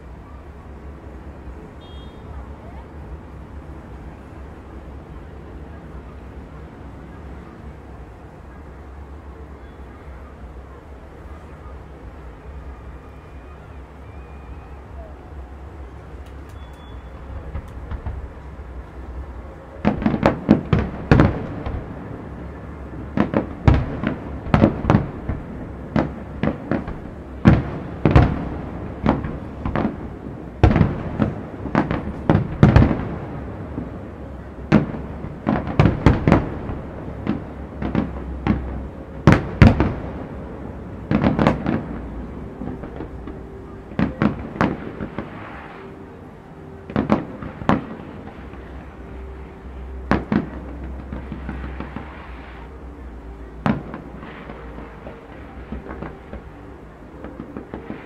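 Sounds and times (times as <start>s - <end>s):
fireworks bursting with bangs: 0.0s - 58.0s
low background rumble: 0.0s - 58.0s.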